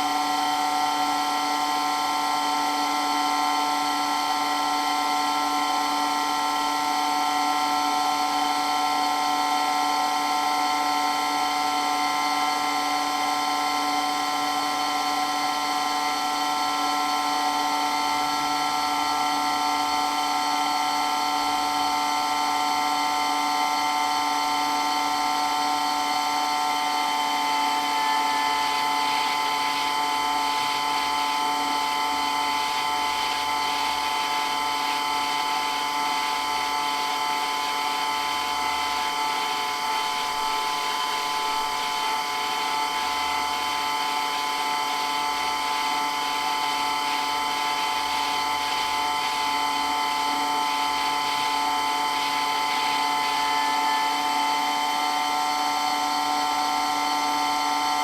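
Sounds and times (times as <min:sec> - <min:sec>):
water pump motor whine: 0:00.0 - 0:58.0.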